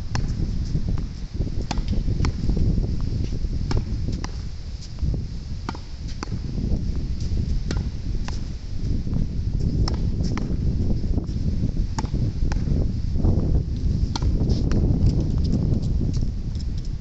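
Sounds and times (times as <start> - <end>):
wind rumbling on microphone: 0.0 - 17.0
tennis ball hitting racket and wall: 0.1 - 12.8, 13.4 - 16.2.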